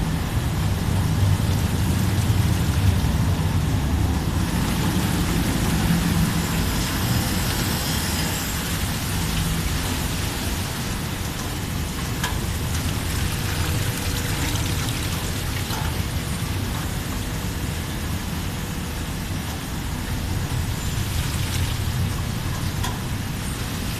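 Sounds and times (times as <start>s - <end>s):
low machine hum: 0.0s - 23.9s
water splashing and rushing: 0.0s - 23.9s.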